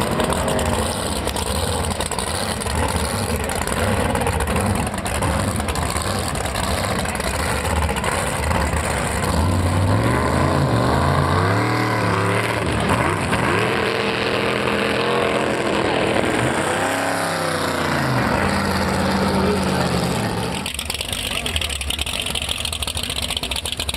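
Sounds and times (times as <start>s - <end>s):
boat engines revving: 0.0s - 23.9s.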